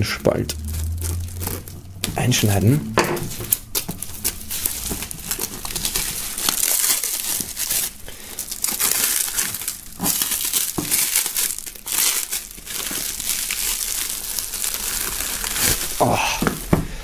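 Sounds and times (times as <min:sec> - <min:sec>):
plastic film crinkling and tearing: 0:00.0 - 0:17.0.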